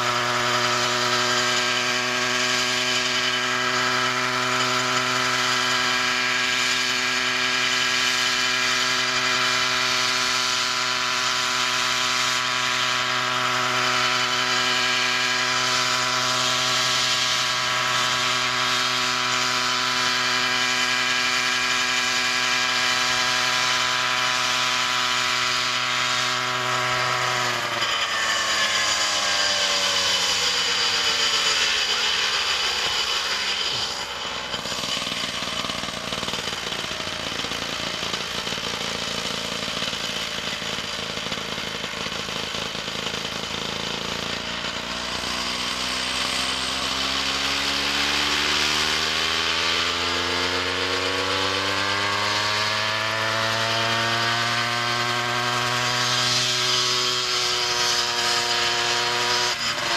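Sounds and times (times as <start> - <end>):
model helicopter engine and rotors: 0.0 - 59.9.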